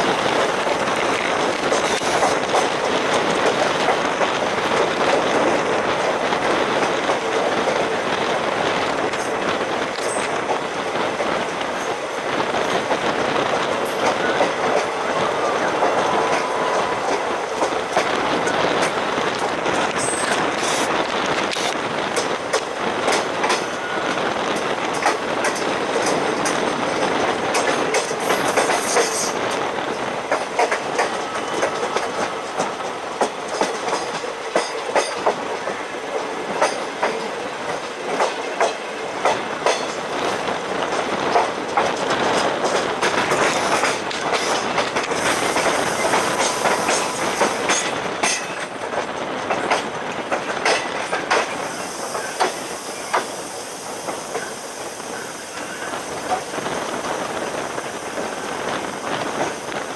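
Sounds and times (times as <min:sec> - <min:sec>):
continuous train rumble: 0:00.0 - 0:59.9
train wheels clattering over joints: 0:00.0 - 0:59.9.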